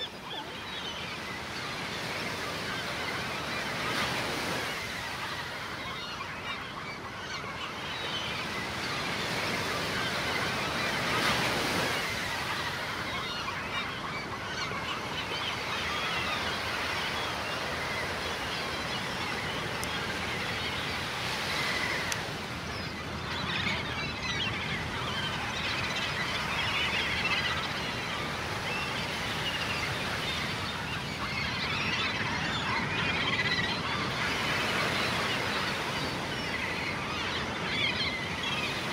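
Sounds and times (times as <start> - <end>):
gulls calling: 0.0 - 38.9
surf washing on shore: 0.0 - 38.9.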